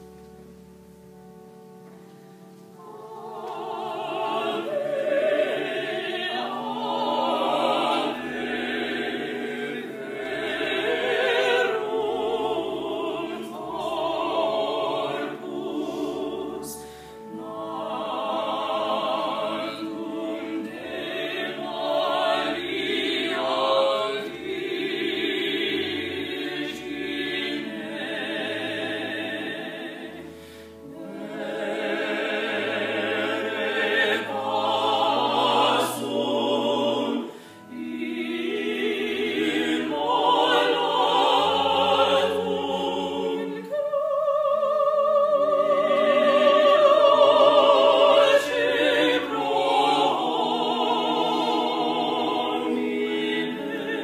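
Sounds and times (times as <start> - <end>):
vocal quartet singing in harmony: 2.7 - 54.0.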